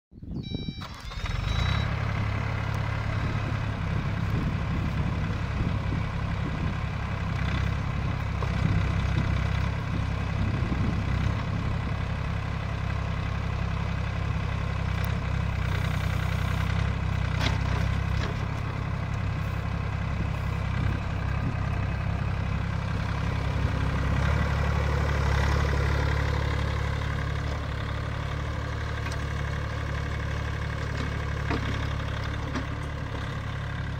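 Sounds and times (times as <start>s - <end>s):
excavator engine running: 0.3s - 33.9s.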